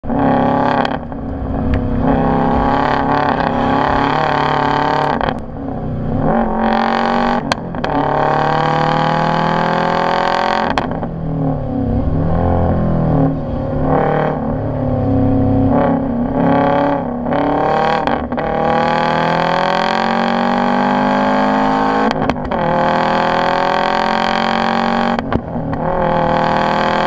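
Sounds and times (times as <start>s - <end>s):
turbocharged car engine revving: 0.0s - 27.0s.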